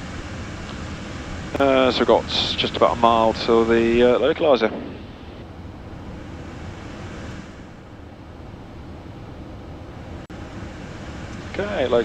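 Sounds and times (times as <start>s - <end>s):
jet cockpit airflow and engine: 0.0s - 12.0s.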